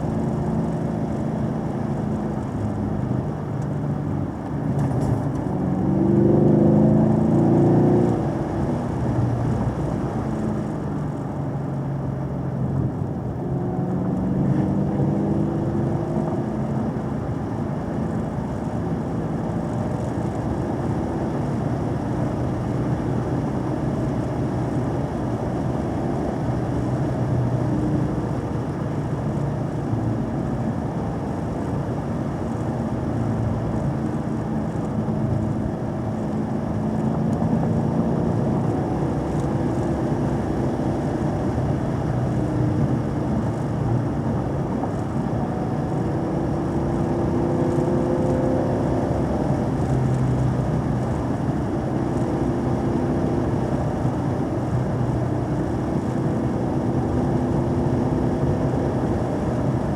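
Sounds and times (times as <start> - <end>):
car engine accelerating: 0.0 - 12.0, 12.6 - 59.9
road and tyre noise: 0.0 - 59.9.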